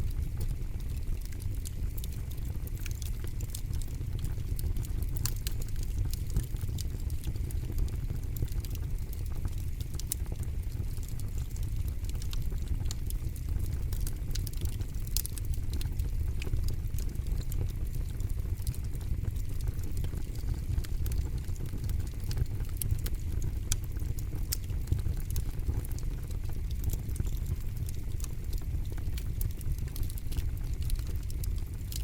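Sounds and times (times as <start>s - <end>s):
burning wood crackling and popping: 0.0s - 32.0s
low fire rumble: 0.0s - 32.0s.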